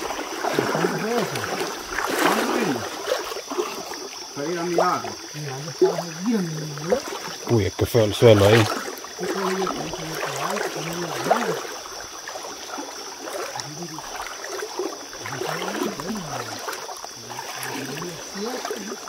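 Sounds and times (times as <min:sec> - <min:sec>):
river water trickling: 0:00.0 - 0:19.0.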